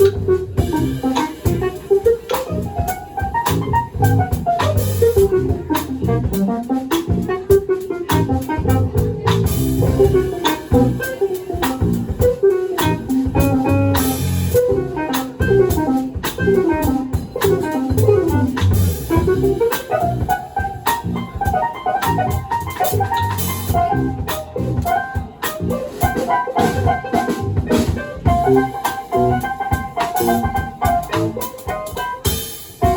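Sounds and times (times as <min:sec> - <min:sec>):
bass and drum kit: 0:00.0 - 0:32.9.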